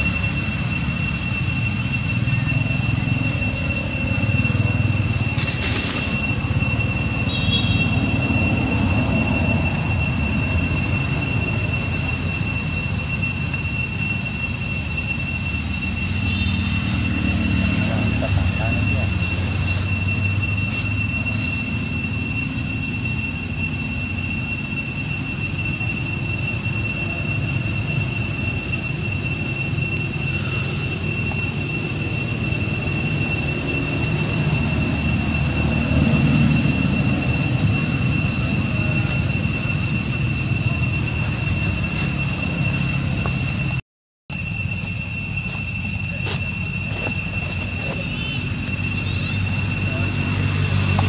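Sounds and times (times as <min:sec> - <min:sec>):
cicadas droning: 0:00.0 - 0:51.0.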